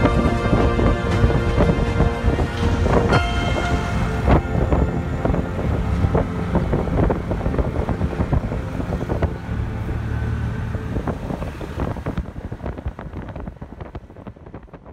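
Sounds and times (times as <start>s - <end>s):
vehicle road rumble: 0.0s - 14.9s.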